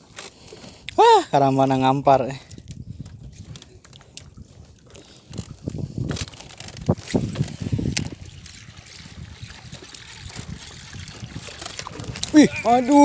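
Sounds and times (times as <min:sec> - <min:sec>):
water lapping against a boat: 0:02.5 - 0:13.0.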